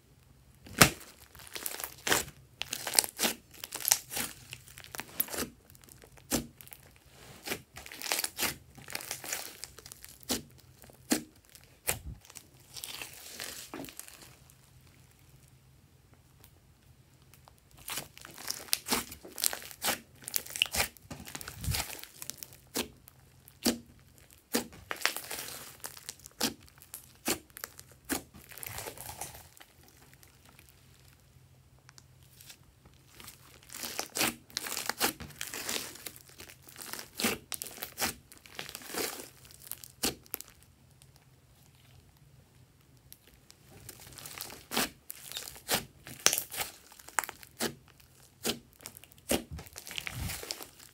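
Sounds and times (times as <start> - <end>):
slime crackling and popping: 0.6 - 15.6, 17.2 - 50.9.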